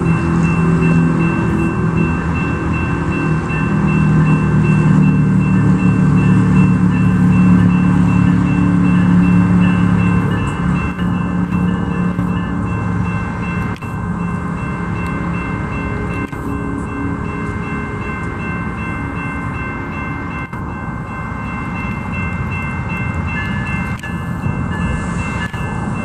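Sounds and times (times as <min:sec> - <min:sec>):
train engine drone: 0:00.0 - 0:26.0.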